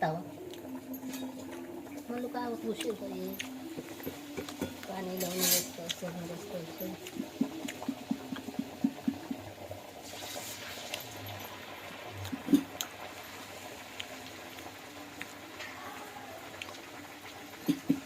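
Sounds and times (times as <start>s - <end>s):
liquid boiling hiss: 0.0s - 18.0s.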